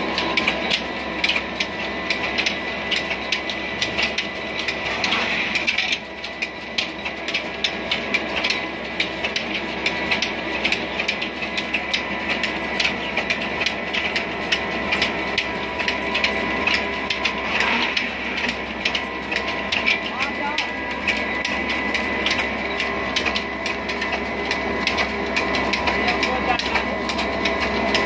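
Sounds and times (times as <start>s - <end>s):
line shaft and belts humming: 0.0s - 28.0s
sharp rhythmic clicking: 0.1s - 4.8s, 5.7s - 28.0s.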